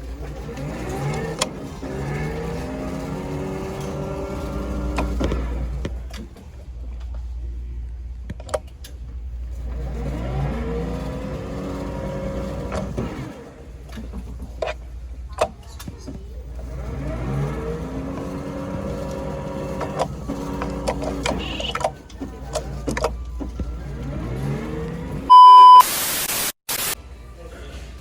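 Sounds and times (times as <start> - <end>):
car engine running: 0.0 - 8.2, 9.2 - 25.3.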